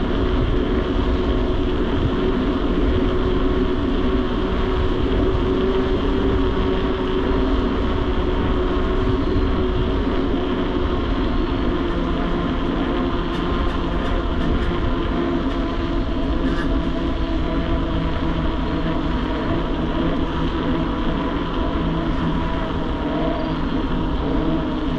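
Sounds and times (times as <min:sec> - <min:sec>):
rushing wind: 0:00.0 - 0:24.9
tyres humming on pavement: 0:00.0 - 0:24.9.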